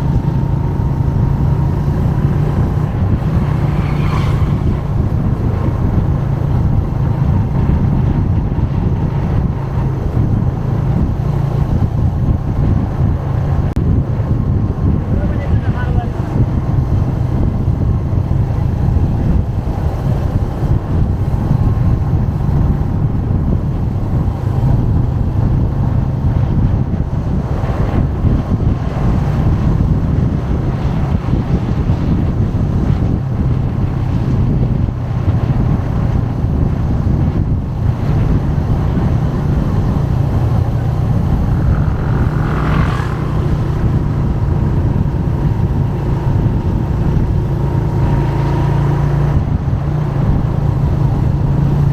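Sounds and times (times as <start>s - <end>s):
motorbike engine running: 0.0s - 51.9s
traffic: 0.0s - 51.9s
wind buffeting microphone: 0.0s - 51.9s.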